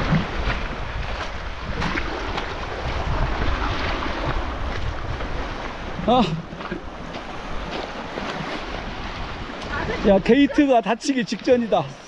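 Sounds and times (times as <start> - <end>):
wind rumbling on microphone: 0.0 - 10.6
waves washing on pebbles: 0.0 - 12.0.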